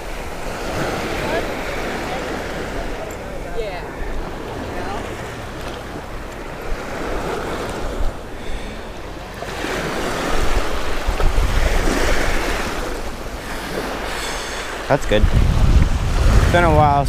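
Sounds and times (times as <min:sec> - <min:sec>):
wind buffeting the microphone: 0:00.0 - 0:14.2, 0:14.9 - 0:17.0
small surf waves washing up: 0:00.0 - 0:17.0.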